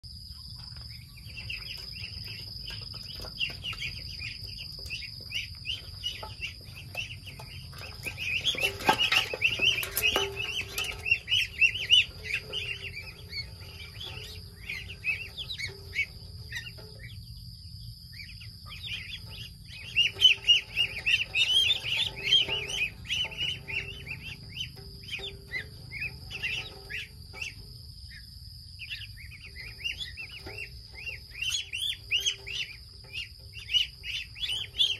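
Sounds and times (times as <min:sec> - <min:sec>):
ducklings peeping: 0:00.3 - 0:34.9.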